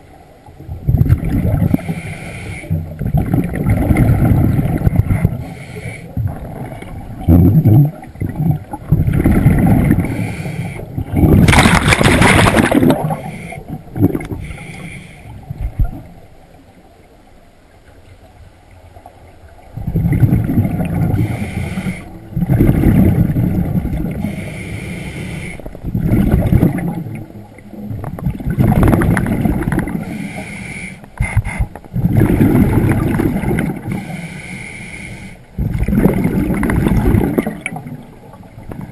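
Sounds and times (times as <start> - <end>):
exhaled bubbles underwater: 0.0 - 14.7, 15.4 - 16.7, 19.0 - 30.4, 31.2 - 34.2, 35.5 - 38.9.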